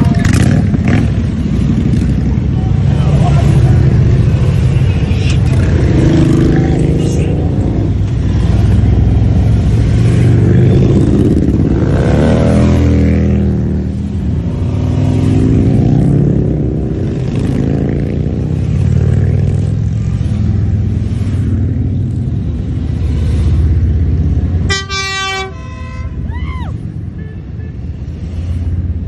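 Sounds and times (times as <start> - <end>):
motorcycles riding past: 0.0 - 27.1, 27.8 - 29.0.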